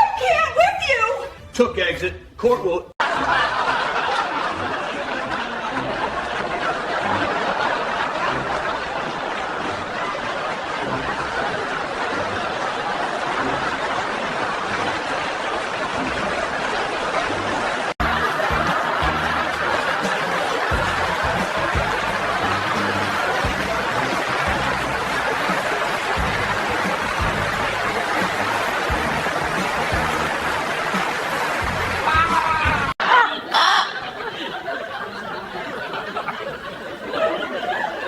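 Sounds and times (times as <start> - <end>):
crowd laughing: 3.0 - 38.0.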